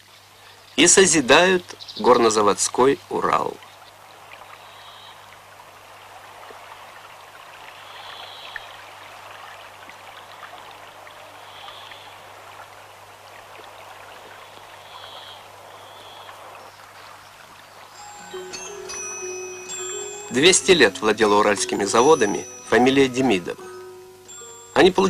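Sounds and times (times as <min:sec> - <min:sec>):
water rushing: 0:00.8 - 0:25.0.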